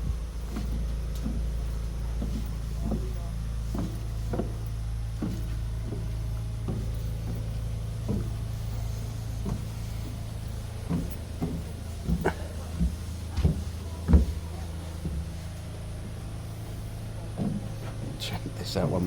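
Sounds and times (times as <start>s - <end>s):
footsteps walking: 0.0s - 19.0s.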